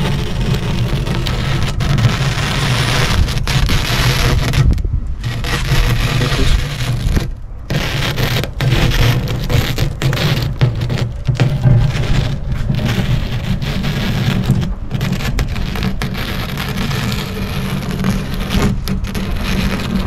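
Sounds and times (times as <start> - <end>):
low rumble: 0.0 - 20.0
razor blade scraping glass: 0.0 - 20.0.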